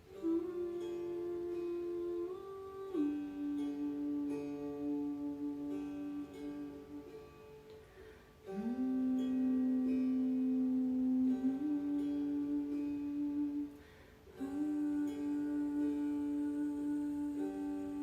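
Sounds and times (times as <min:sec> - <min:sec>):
long held tones: 0:00.0 - 0:18.0
softly plucked strings: 0:00.0 - 0:18.0.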